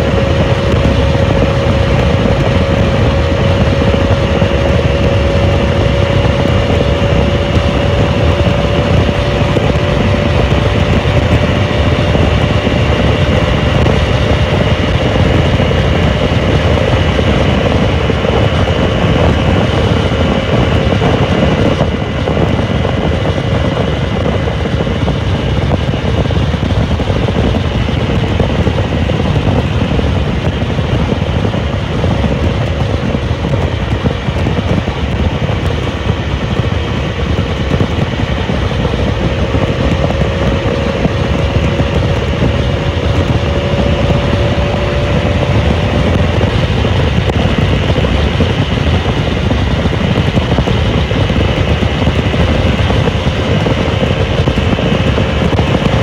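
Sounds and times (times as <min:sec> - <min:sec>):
heavy wind rush: 0:00.0 - 0:56.0
motorcycle engine at high speed: 0:00.0 - 0:56.0.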